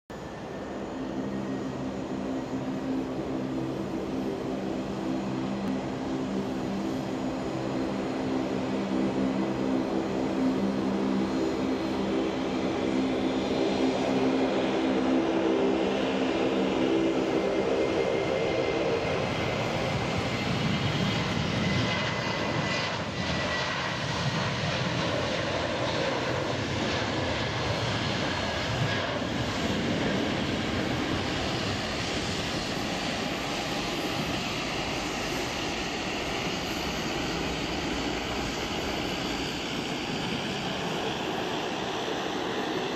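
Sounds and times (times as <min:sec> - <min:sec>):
faint rising whine: 0:00.1 - 0:42.9
humming engine tone: 0:00.1 - 0:42.9
jet engine roar: 0:00.1 - 0:42.9.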